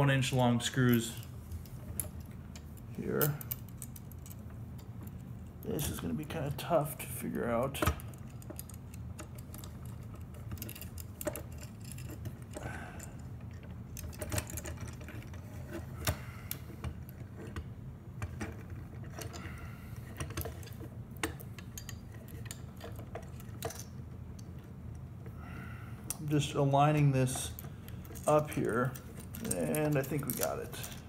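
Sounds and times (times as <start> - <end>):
steady low hum: 0.0 - 31.0
small metal parts clicking: 0.9 - 6.6, 7.7 - 25.0, 26.0 - 31.0.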